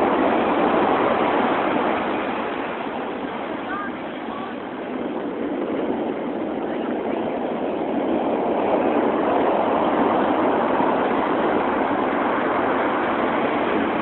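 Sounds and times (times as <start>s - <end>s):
heavy surf breaking ashore: 0.0s - 14.0s.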